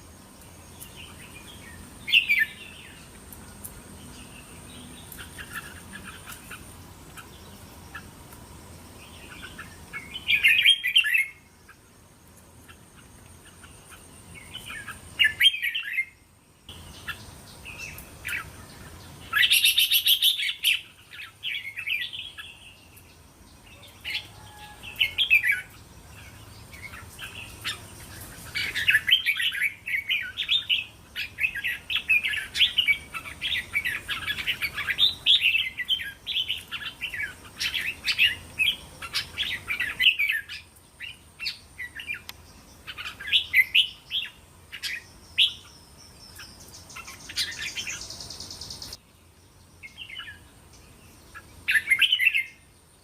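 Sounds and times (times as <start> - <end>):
bird singing warbling phrases: 0.0 - 8.2, 8.8 - 11.9, 12.6 - 53.0.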